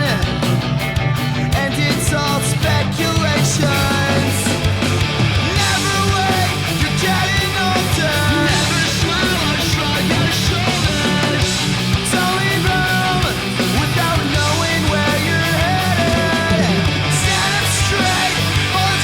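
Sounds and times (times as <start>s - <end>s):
punk metal rock music: 0.0s - 19.0s.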